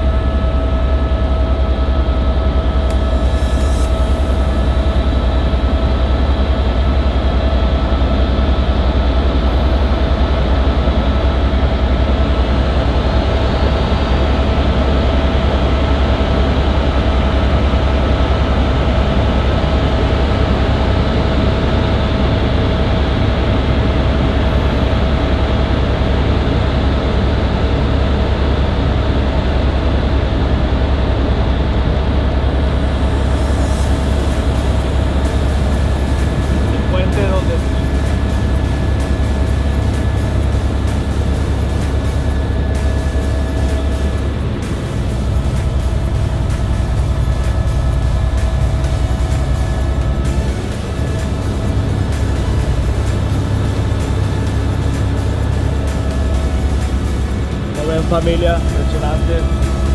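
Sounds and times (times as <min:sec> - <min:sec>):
helicopter rotor drone: 0:00.0 - 0:59.9.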